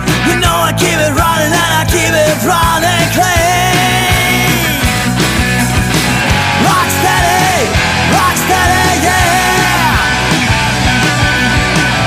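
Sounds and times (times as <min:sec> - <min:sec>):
bending lead guitar lines: 0:00.0 - 0:12.0
rock music backing track: 0:00.0 - 0:12.0.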